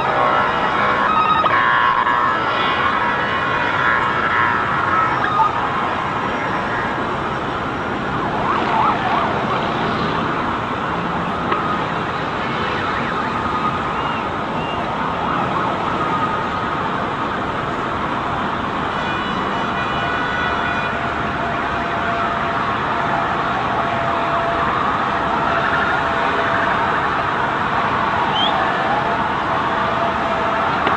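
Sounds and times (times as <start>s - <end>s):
emergency vehicle sirens: 0.0s - 30.9s
street noise: 0.0s - 30.9s.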